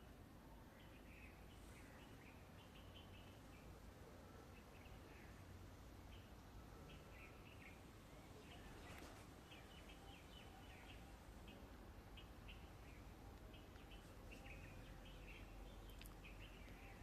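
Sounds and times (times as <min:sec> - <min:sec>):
faint bird chirping: 0:00.0 - 0:17.0
low background hum: 0:00.0 - 0:17.0.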